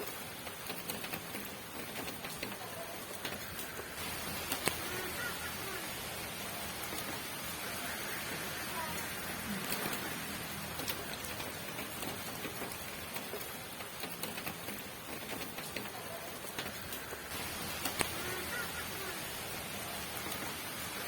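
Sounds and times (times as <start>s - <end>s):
rain drop ticks: 0.0s - 21.0s
steady rain hiss: 0.0s - 21.0s.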